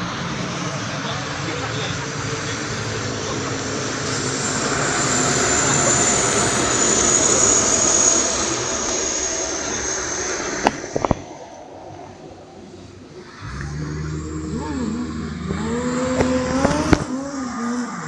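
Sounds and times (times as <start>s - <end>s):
vehicle passing at speed: 0.0s - 11.0s, 13.2s - 18.0s.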